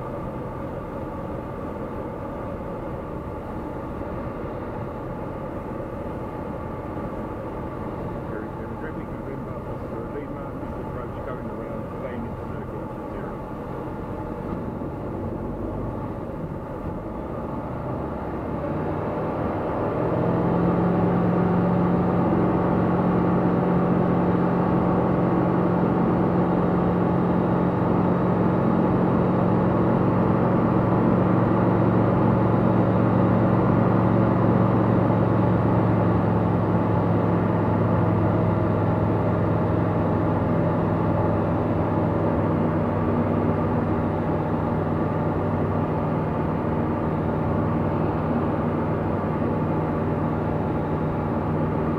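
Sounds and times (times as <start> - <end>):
light aircraft engine drone: 0.0 - 51.9.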